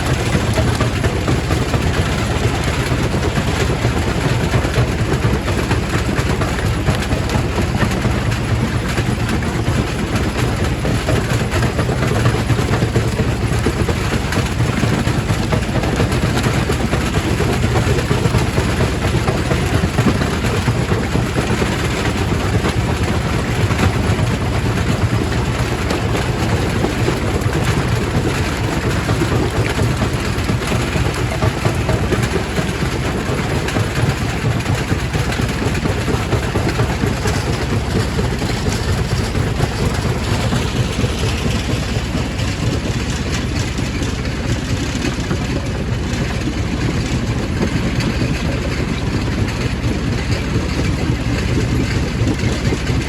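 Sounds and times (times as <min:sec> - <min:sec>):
rock crusher rumbling: 0:00.0 - 0:53.0.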